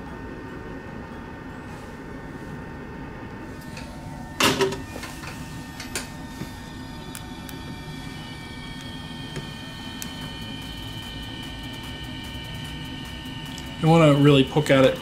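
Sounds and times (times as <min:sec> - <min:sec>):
workbench equipment humming: 0:00.0 - 0:15.0.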